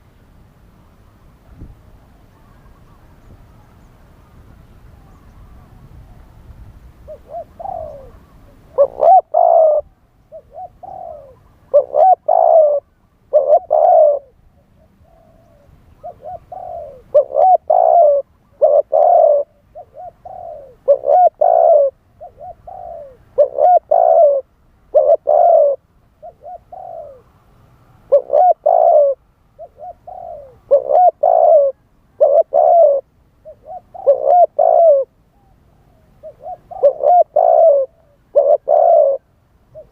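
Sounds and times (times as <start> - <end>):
dove cooing: 7.0 - 27.4, 28.0 - 39.9.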